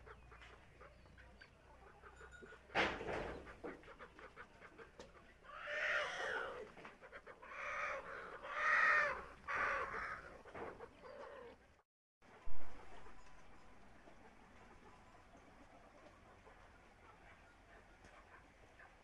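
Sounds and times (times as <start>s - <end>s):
chickens clucking: 0.0s - 11.7s, 12.3s - 19.0s.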